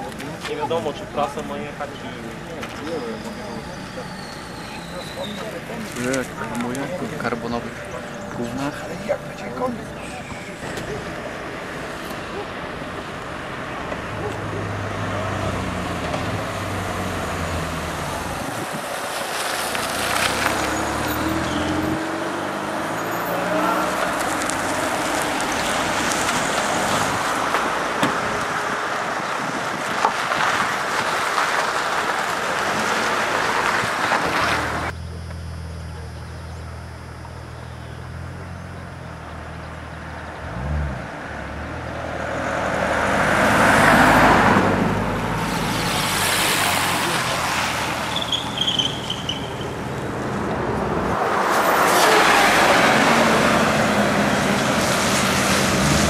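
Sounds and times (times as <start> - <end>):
police car approaching: 0.0 - 56.0
vehicles passing on road: 0.0 - 56.0.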